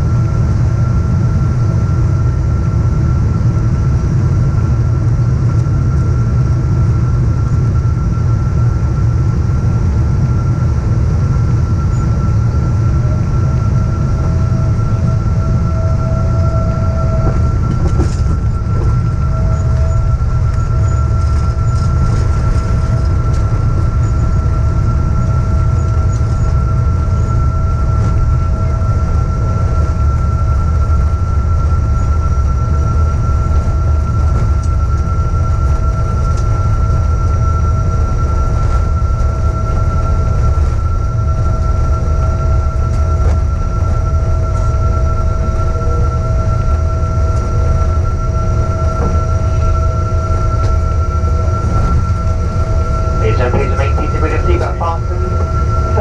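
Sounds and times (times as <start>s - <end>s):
low rumble of wheels: 0.0s - 54.1s
jet engine whine: 0.0s - 56.0s.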